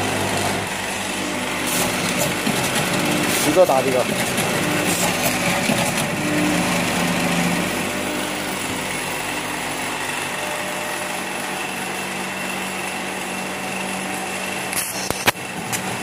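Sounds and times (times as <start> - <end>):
machine mechanical buzz: 0.0 - 16.0.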